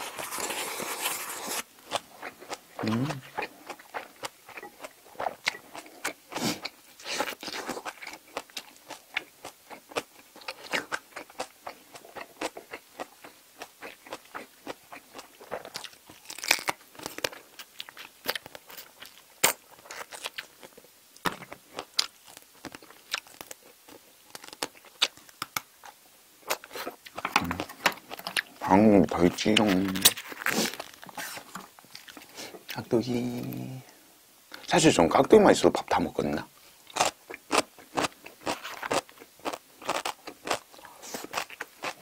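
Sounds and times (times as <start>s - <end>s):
person chewing crunchy food: 0.0s - 33.8s, 36.8s - 42.0s.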